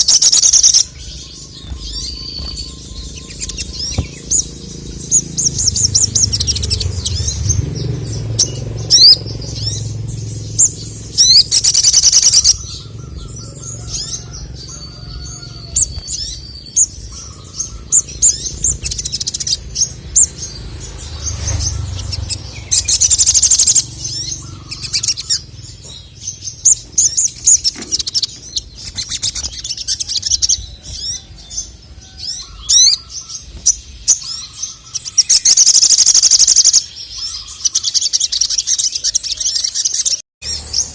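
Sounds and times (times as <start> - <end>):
bird rapid trills: 0.0 - 40.9
bird singing high chirps: 0.0 - 40.9.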